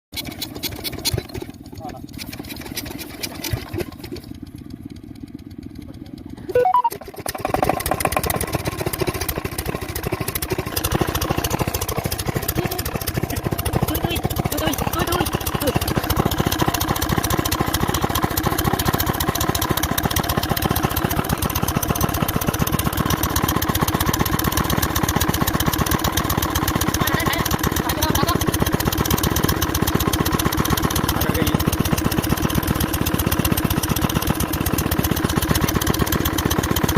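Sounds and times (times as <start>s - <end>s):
diesel pump engine chugging: 0.2s - 36.9s.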